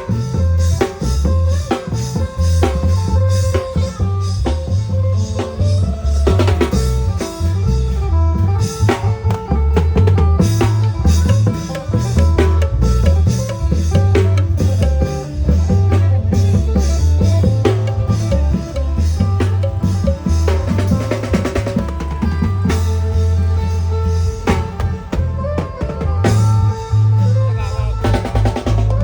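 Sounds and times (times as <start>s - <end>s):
drums beating: 0.0s - 29.0s
pulsing bass line: 0.0s - 29.0s.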